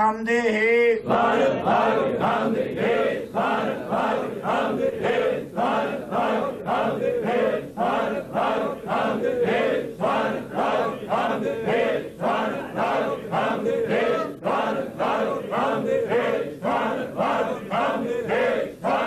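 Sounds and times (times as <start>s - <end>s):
men chanting in unison: 0.1s - 19.0s.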